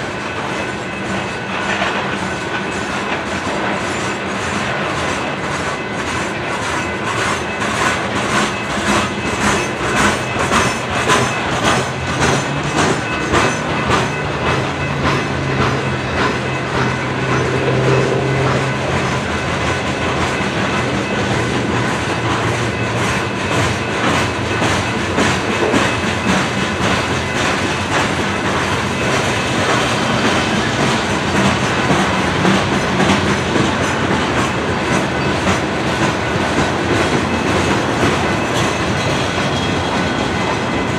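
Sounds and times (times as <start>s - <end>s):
train cars rolling past: 0.0s - 40.9s.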